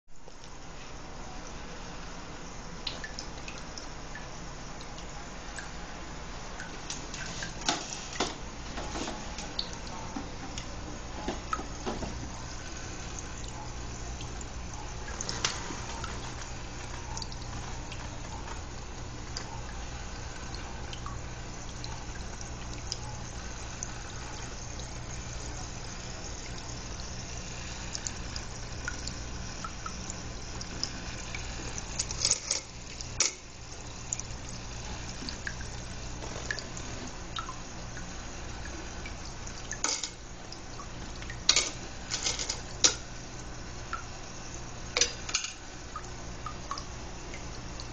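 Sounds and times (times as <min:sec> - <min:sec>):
steady low hum: 0:00.1 - 0:47.9
water dripping and trickling: 0:02.4 - 0:47.9.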